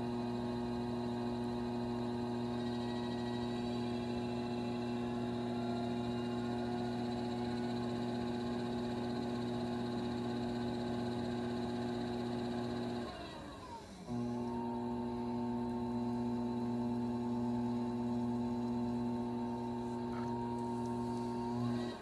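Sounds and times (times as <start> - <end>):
potter's wheel humming: 0.0 - 22.0.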